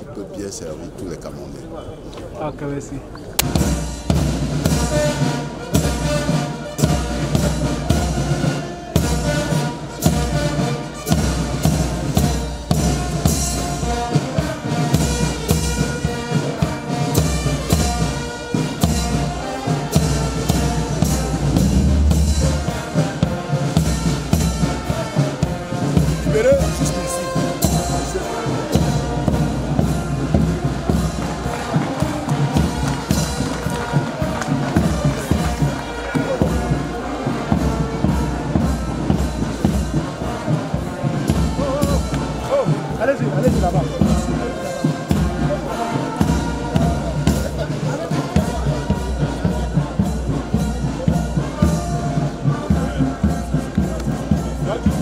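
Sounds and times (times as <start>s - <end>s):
brass band music: 3.4s - 55.0s
drums keeping steady beat: 3.4s - 55.0s.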